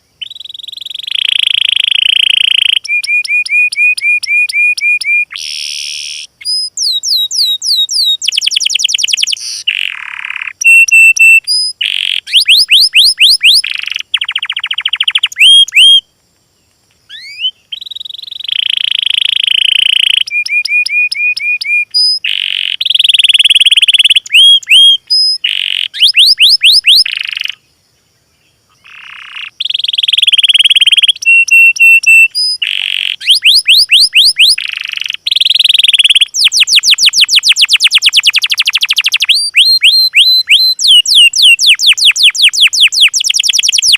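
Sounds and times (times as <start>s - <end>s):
songbird song: 0.0s - 43.9s.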